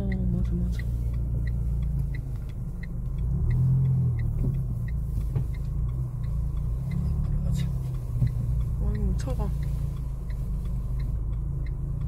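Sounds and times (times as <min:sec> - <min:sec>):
car engine and road rumble: 0:00.0 - 0:12.0
turn signal ticking: 0:00.0 - 0:12.0.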